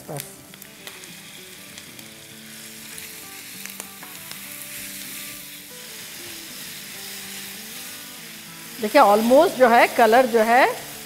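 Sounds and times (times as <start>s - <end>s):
meat and onions sizzling in oil: 0.0s - 11.0s.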